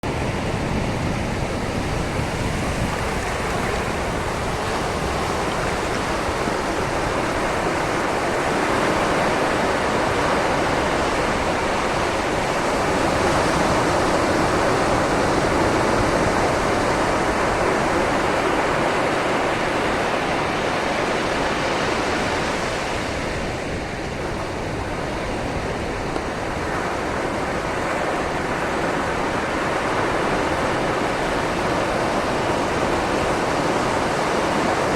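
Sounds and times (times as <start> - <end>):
sea waves washing onto shore: 0.0 - 34.9.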